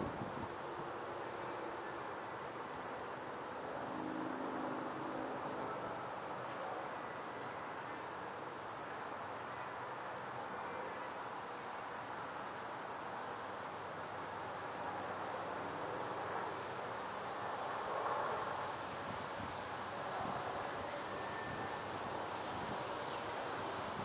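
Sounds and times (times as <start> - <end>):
insects trilling: 0.0 - 24.0
steady hiss: 0.0 - 24.0.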